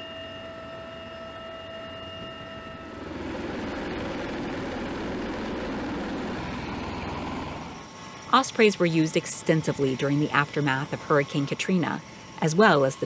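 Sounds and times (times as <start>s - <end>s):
aircraft cabin whine: 0.0s - 13.0s
tiltrotor aircraft flying overhead: 0.0s - 13.0s.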